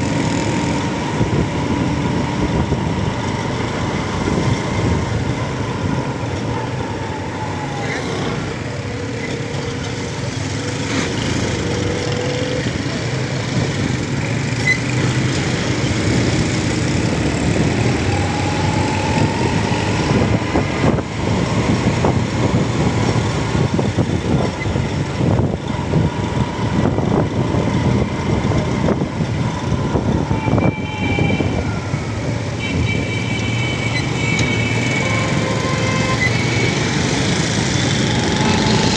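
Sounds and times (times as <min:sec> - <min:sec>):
other vehicle engines: 0:00.0 - 0:38.9
road and wind noise: 0:00.0 - 0:38.9.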